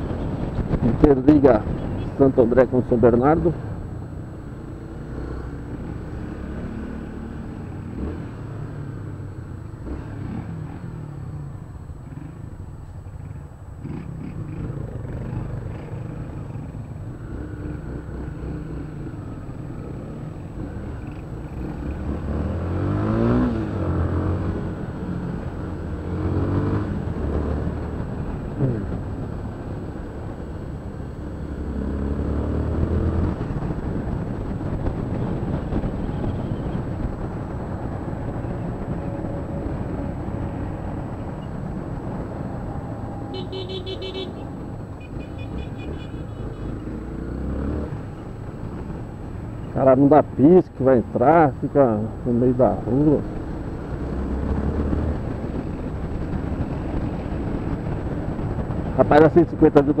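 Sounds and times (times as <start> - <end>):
motorcycle engine revving: 4.8 - 12.5, 13.8 - 49.5, 51.3 - 60.0.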